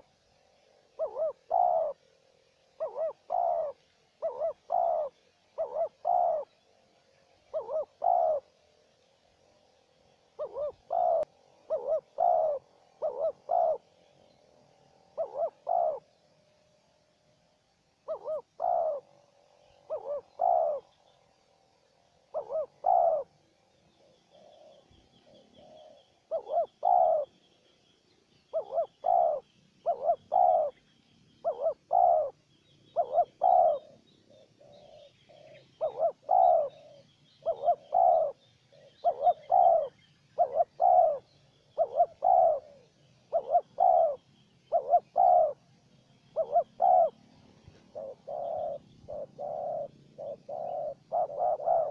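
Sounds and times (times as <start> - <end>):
doves cooing: 0.0 - 16.4, 17.6 - 27.6, 28.3 - 51.9.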